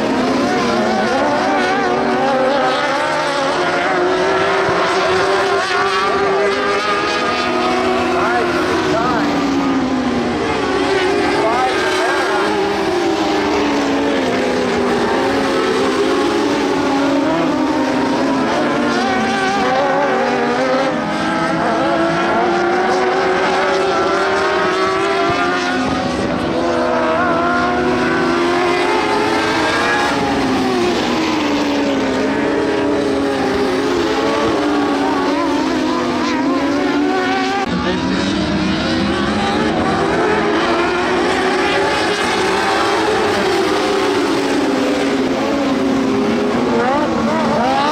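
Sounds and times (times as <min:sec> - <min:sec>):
race car engines revving: 0:00.0 - 0:47.9.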